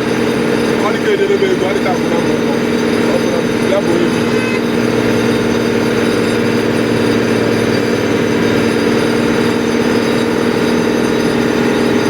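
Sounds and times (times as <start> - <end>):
heavy engine humming steadily: 0.0 - 12.0.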